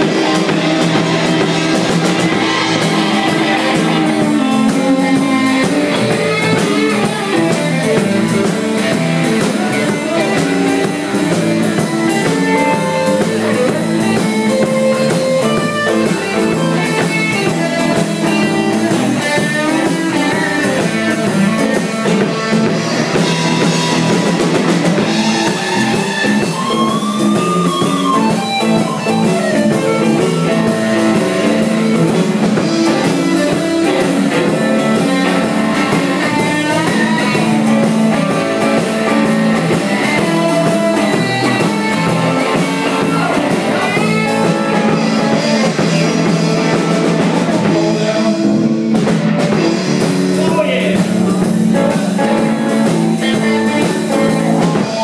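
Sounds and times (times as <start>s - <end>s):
bass guitar: 0.0s - 55.0s
drum kit: 0.0s - 55.0s
electric guitar bending notes: 0.0s - 55.0s.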